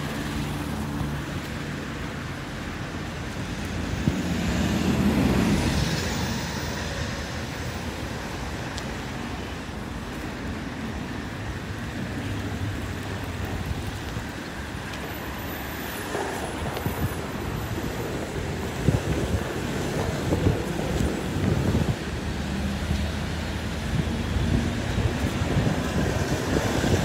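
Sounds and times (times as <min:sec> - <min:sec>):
steady traffic hum: 0:00.0 - 0:27.0.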